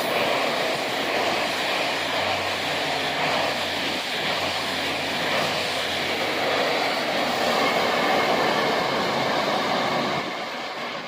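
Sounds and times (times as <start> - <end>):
diesel engine low hum: 0.0 - 11.0
train rushing on rails: 0.0 - 11.0.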